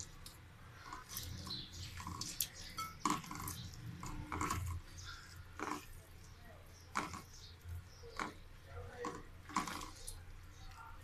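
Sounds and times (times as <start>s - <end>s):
wet squishing of mashed food: 0.0s - 11.0s.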